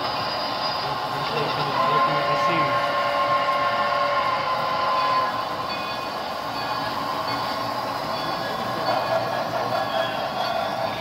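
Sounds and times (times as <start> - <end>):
model steam locomotive rushing: 0.0 - 11.0.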